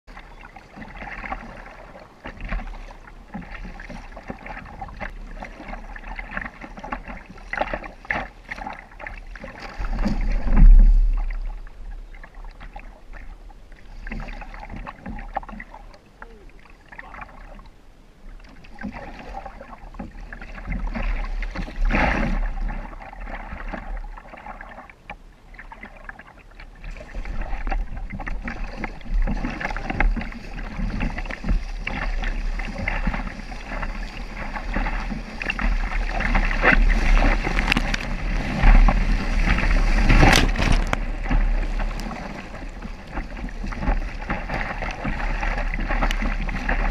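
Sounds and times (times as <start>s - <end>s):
kayak paddle strokes splashing: 0.1s - 46.9s
water washing against hull: 0.1s - 46.9s.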